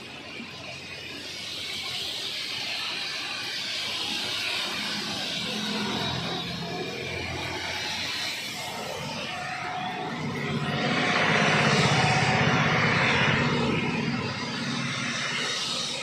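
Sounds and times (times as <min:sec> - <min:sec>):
bus engine: 0:00.0 - 0:16.0
heavy rain on a wet road: 0:00.0 - 0:16.0.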